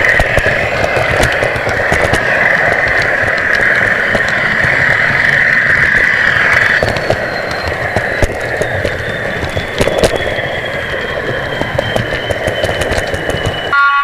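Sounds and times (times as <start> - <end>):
sharp track clicks: 0.0 - 13.8.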